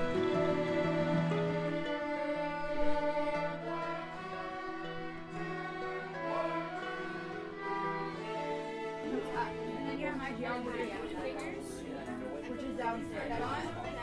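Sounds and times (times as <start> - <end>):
bowed violins sustained notes: 0.0 - 14.0.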